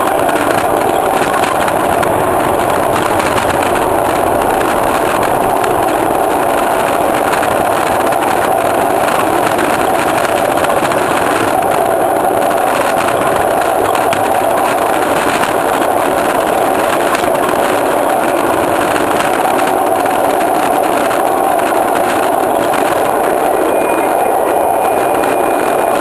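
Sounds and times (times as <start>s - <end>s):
wheels rumbling and rattling on track: 0.0s - 26.0s.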